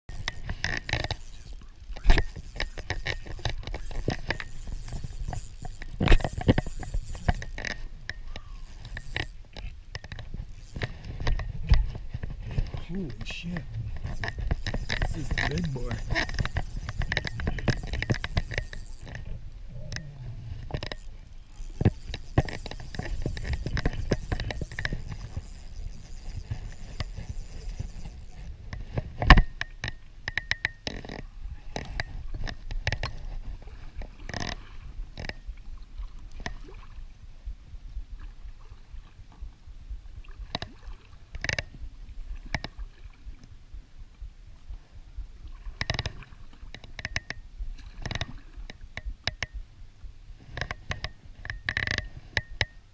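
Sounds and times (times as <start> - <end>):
clicks and knocks on a kayak: 0.1 - 36.9, 40.2 - 43.6, 45.5 - 49.6, 50.4 - 52.9.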